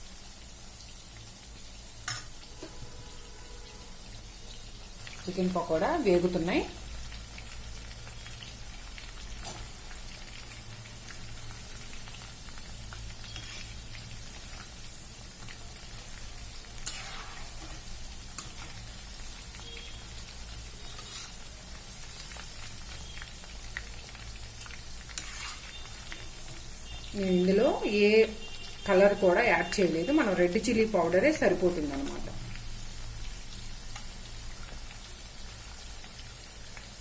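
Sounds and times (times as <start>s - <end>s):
food deep-frying in oil: 0.0s - 37.0s.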